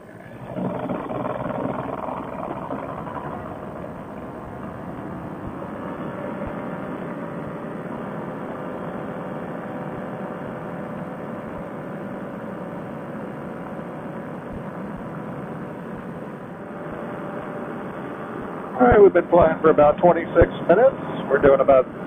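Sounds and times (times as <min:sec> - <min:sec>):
paramotor engine droning: 0:00.0 - 0:22.0.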